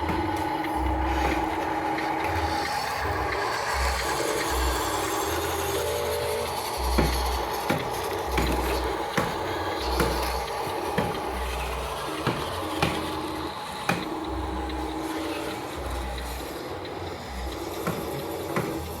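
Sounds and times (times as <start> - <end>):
small electric motors humming: 0.0 - 19.0.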